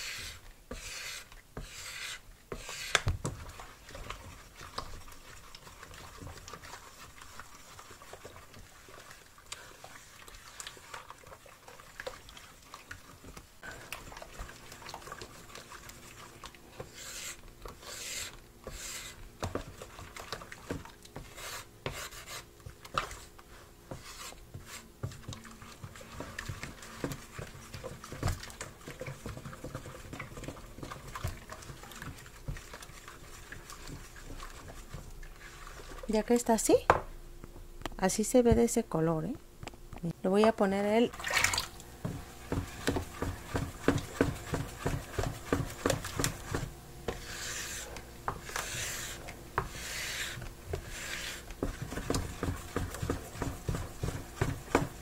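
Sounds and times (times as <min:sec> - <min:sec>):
spatula scraping plastic basin: 0:00.0 - 0:13.1, 0:14.0 - 0:36.5, 0:41.3 - 0:55.0
liquid swishing: 0:00.0 - 0:36.4, 0:41.1 - 0:55.0.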